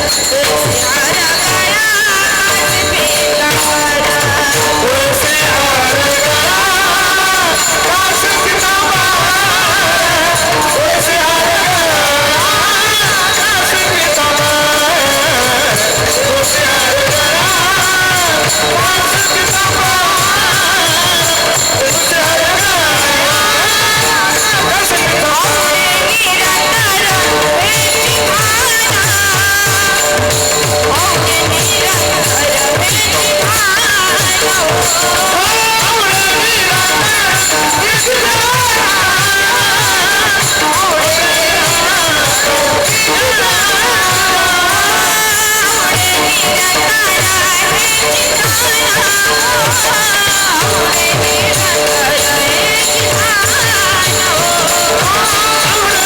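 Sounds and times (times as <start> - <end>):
fast drum strokes: 0.0 - 56.0
jingling percussion: 0.0 - 56.0
woman singing devotional song: 0.0 - 56.0.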